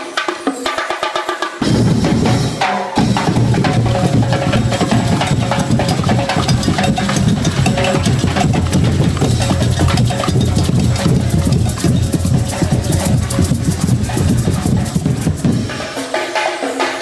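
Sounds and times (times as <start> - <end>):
drum band playing loud beat: 0.0 - 17.0
shakers: 3.2 - 17.0.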